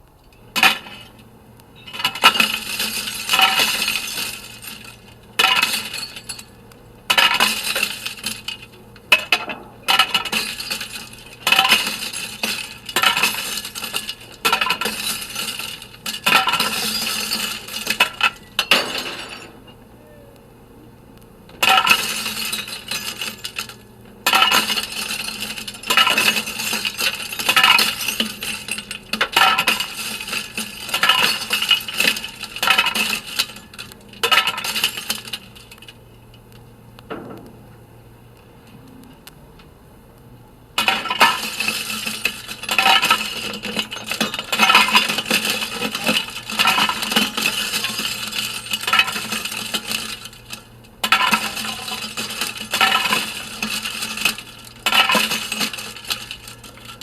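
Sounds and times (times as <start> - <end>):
glass breaking: 1.8 - 19.8, 21.6 - 35.8, 40.8 - 57.0
shards clinking: 1.8 - 19.8, 21.6 - 36.0, 40.8 - 57.0.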